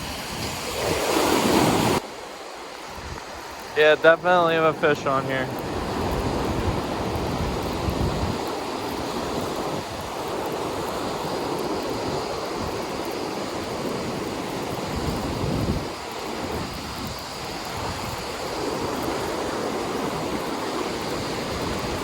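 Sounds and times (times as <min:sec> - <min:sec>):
ocean surf washing onto beach: 0:00.0 - 0:22.0
wind buffeting microphone: 0:02.7 - 0:22.0.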